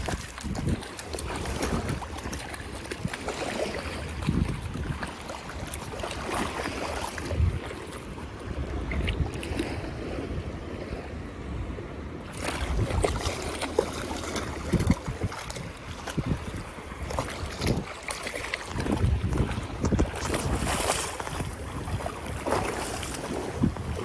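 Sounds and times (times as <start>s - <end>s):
surf washing in: 0.0s - 24.0s
wind buffeting microphone: 0.0s - 24.0s.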